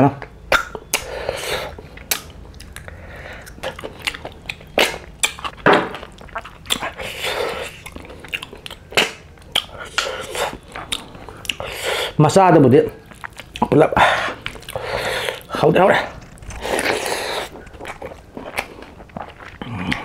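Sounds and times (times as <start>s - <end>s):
chewing and wet mouth sounds: 0.2s - 20.0s.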